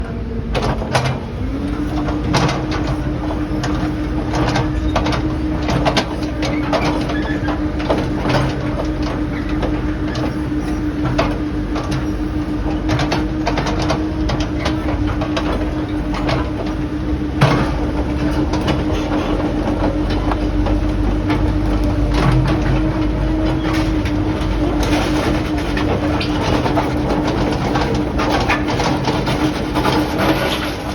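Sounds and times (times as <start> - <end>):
excavator engine running: 0.0 - 30.9.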